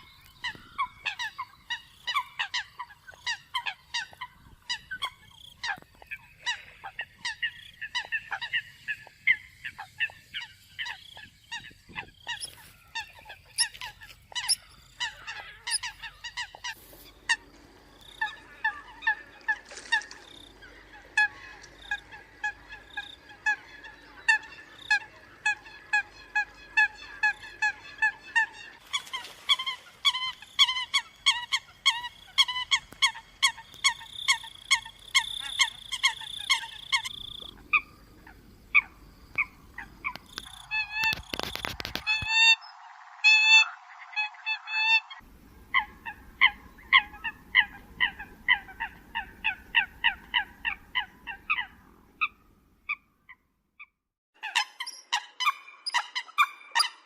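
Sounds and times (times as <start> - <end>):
coots honking calls: 0.0 - 42.6, 43.2 - 53.0.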